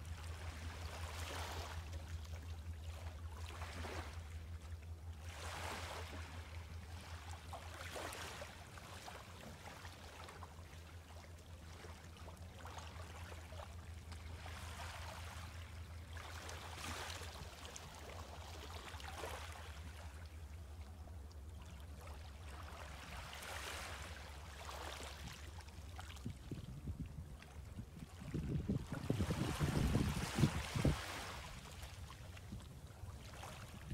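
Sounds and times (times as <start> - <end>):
waves lapping on a beach: 0.0 - 26.8, 27.4 - 33.9
steady low hum: 0.0 - 33.9.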